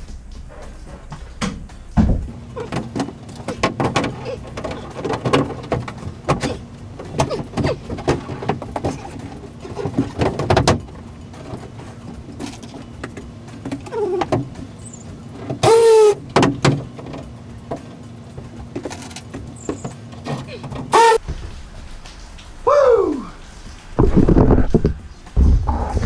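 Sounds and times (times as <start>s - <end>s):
panels knocking scraping and squeaking: 0.4s - 21.6s.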